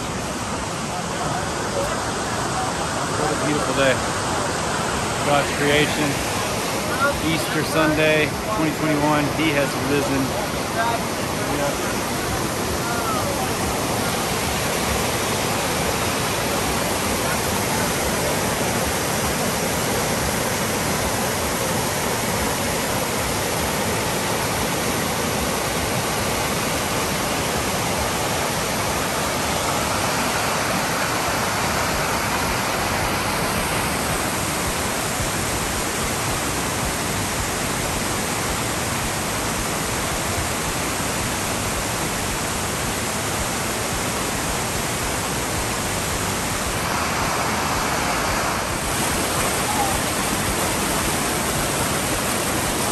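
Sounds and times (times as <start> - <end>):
water rushing down rocks: 0.0 - 52.9.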